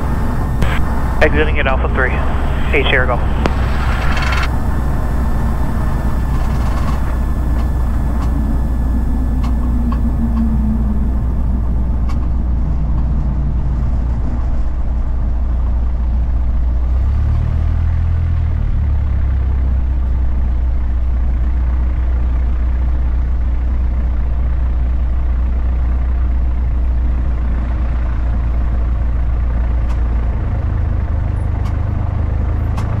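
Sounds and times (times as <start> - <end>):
light aircraft engine and propeller: 0.0 - 33.0.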